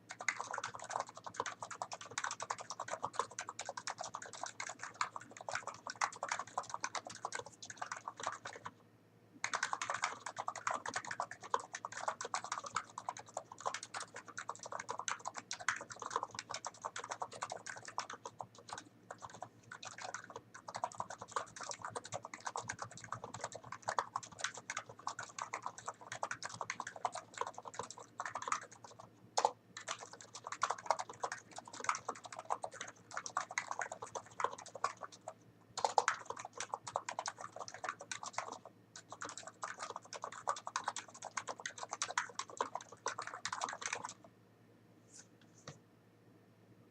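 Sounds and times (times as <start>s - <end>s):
keyboard typing: 0.0s - 8.7s, 9.4s - 44.3s.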